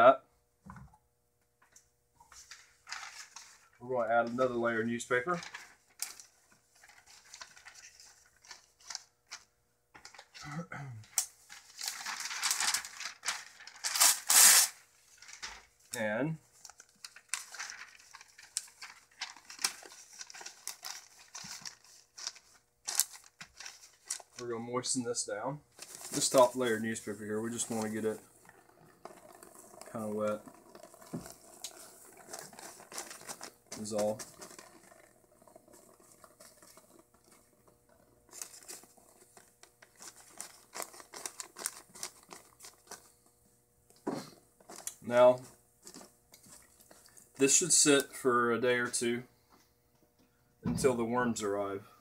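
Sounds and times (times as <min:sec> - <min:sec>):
newspaper rustling and crinkling: 0:02.2 - 0:10.4, 0:11.0 - 0:25.0, 0:25.7 - 0:43.2, 0:44.1 - 0:48.0.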